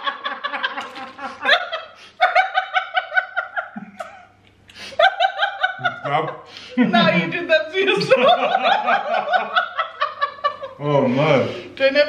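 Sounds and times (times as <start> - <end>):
man and woman laughing: 0.0 - 10.8.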